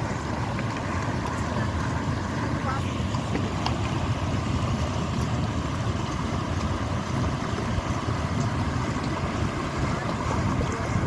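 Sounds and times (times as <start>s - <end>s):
fountain water rushing and splashing: 0.0s - 11.0s.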